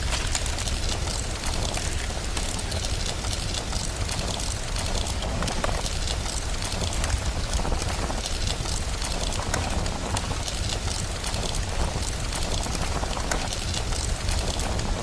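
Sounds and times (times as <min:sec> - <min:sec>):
fire crackling: 0:00.0 - 0:15.0
rain hiss: 0:00.0 - 0:15.0.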